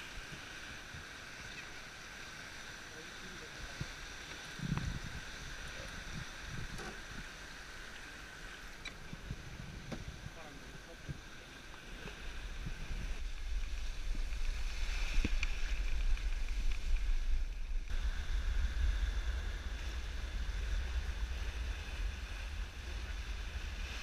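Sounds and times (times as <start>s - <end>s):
water rushing along hull: 0.0s - 24.0s
wind buffeting microphone: 3.6s - 7.7s, 8.8s - 24.0s.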